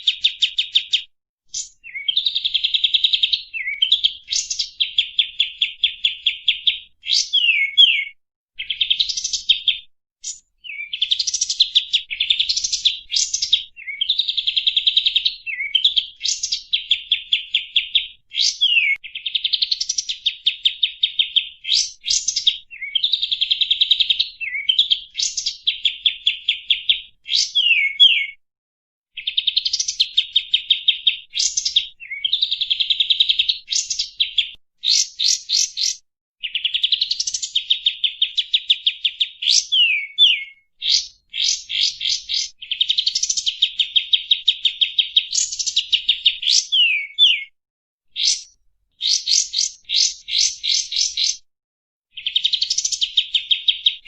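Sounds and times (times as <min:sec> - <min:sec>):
bird singing chirps and whistles: 0:00.0 - 0:28.4, 0:29.2 - 0:51.4, 0:52.2 - 0:54.0.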